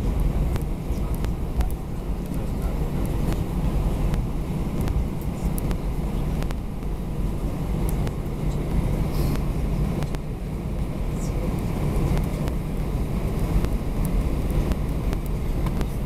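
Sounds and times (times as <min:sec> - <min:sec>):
jet engines idling low rumble: 0:00.0 - 0:16.0
wheels rolling on taxiway: 0:00.0 - 0:16.0.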